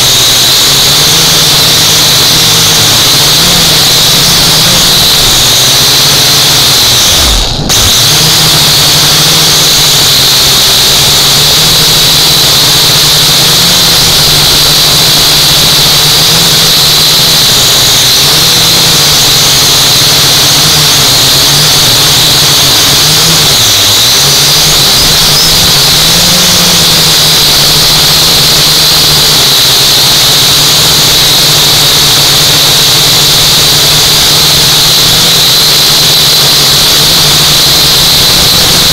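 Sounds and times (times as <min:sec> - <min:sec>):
quadcopter motors whirring: 0:00.0 - 0:38.9.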